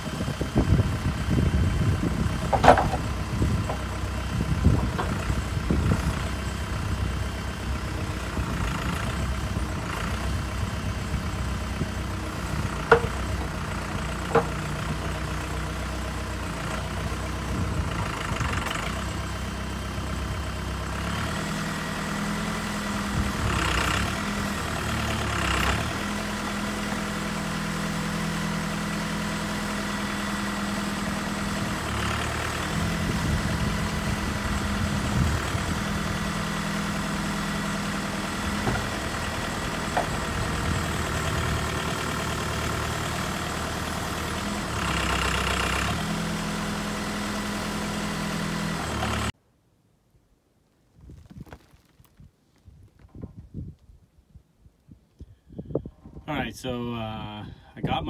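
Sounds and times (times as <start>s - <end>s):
backhoe engine running: 0.0s - 49.4s.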